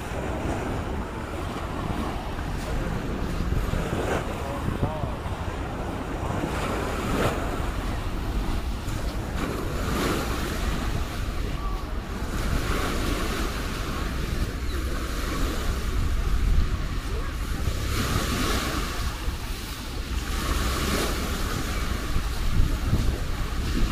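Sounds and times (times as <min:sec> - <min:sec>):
small waves breaking on beach: 0:00.0 - 0:23.9
wind buffeting microphone: 0:00.0 - 0:23.9.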